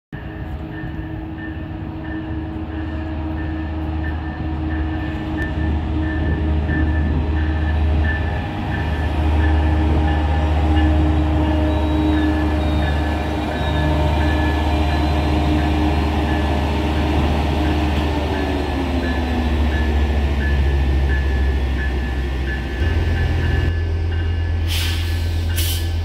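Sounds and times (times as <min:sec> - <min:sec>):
diesel locomotive engine drone: 0:00.1 - 0:26.0.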